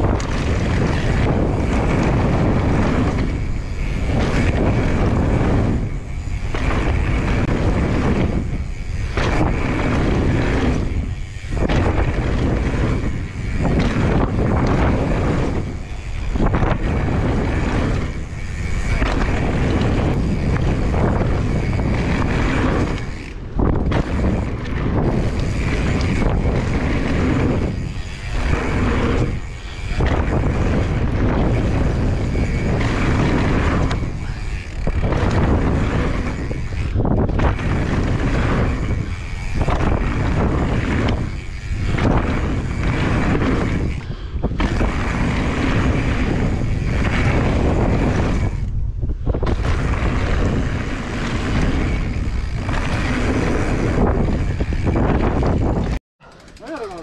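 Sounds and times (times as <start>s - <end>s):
wind buffeting microphone: 0.0s - 56.5s
mountain bike rolling downhill: 0.0s - 57.0s.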